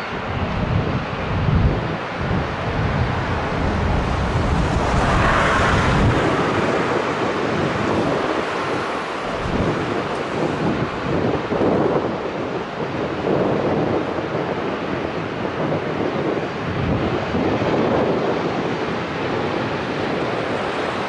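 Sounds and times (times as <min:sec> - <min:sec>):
jet engines roaring: 0:00.0 - 0:21.0
wind buffeting microphone: 0:00.0 - 0:21.0.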